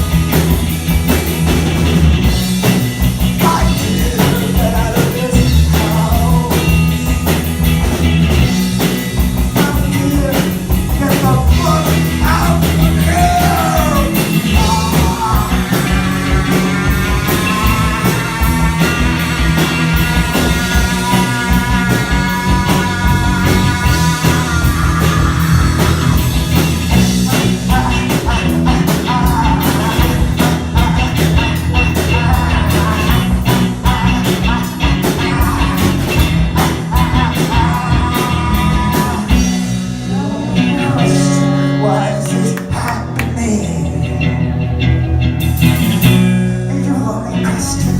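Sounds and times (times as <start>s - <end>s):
drums: 0.0s - 47.9s
guitars: 0.0s - 47.9s
live rock band playing: 0.0s - 47.9s
steady bass: 0.0s - 47.9s.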